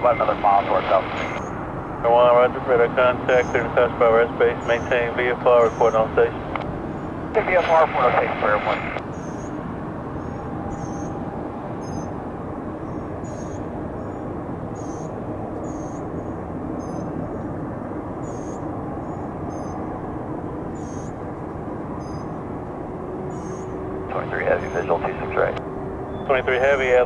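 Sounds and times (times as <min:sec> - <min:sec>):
distant jet aircraft rumble: 0:00.0 - 0:27.0.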